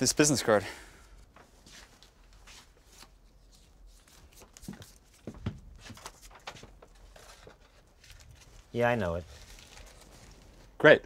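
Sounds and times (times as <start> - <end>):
paper poster rustling: 1.4 - 11.0.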